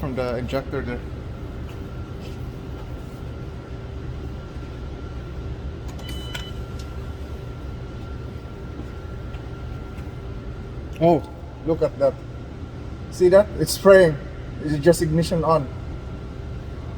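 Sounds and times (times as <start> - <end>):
faint whine: 0.0 - 16.9.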